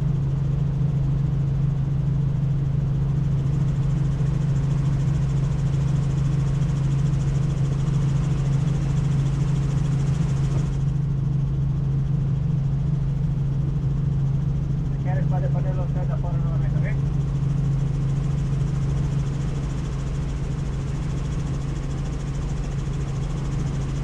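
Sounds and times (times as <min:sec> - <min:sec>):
helicopter rotor and turbine drone: 0:00.0 - 0:24.0.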